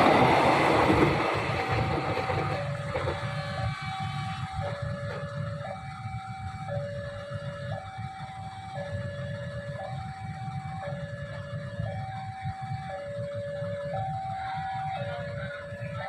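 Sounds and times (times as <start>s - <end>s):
steady low rumble: 0.0s - 16.0s
two-tone warning alarm: 0.0s - 16.0s.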